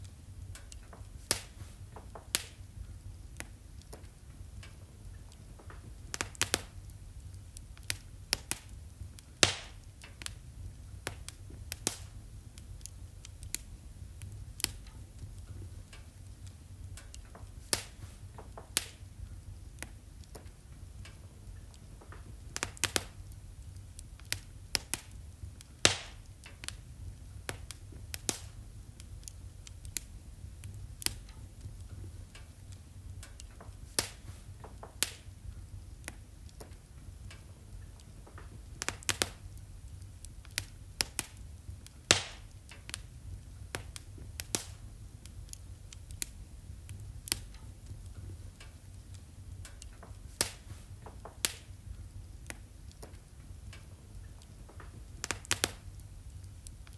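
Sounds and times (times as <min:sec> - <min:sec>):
low steady rumble: 0:00.0 - 0:56.9
wood fire crackling and popping: 0:00.0 - 0:56.9.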